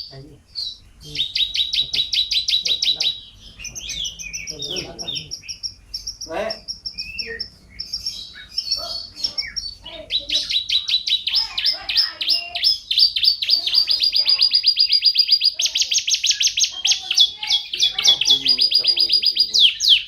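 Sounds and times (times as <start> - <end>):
canary chirps: 0.0 - 20.0
canary trilling: 0.0 - 20.0.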